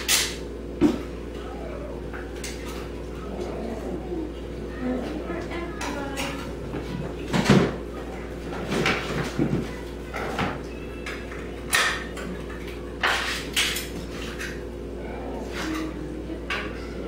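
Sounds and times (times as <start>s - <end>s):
dishes clinking and clattering: 0.0s - 3.6s, 5.0s - 14.7s, 15.4s - 17.0s.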